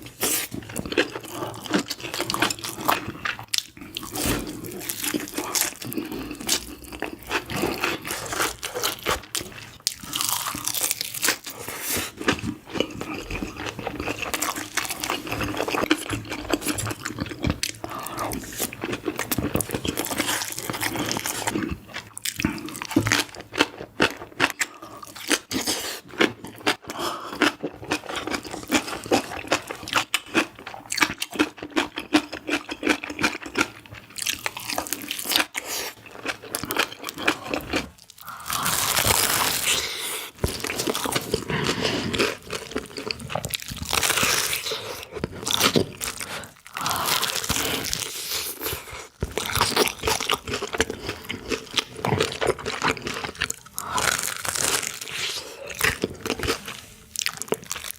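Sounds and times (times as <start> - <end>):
crunching and chewing food: 0.0 - 57.9.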